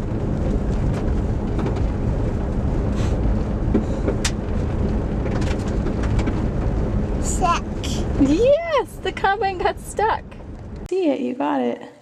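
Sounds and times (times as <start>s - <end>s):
engine rumbling: 0.0s - 11.6s.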